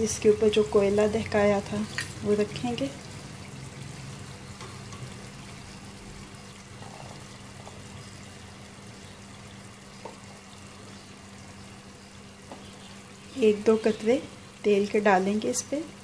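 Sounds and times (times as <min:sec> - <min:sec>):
gravy bubbling in a wok: 0:00.0 - 0:16.0.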